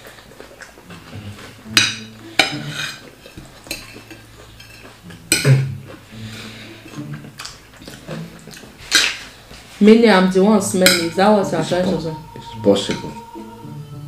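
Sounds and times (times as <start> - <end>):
utensils clinking and scraping plate: 0.9 - 12.1, 12.7 - 13.3.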